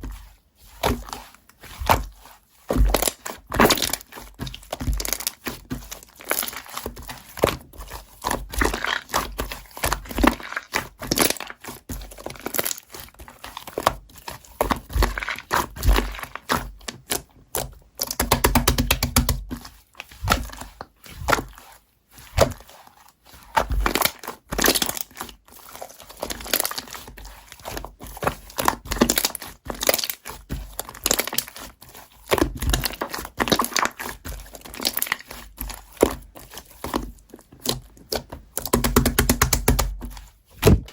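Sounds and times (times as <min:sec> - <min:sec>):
slime squished by hand: 0:00.2 - 0:40.9.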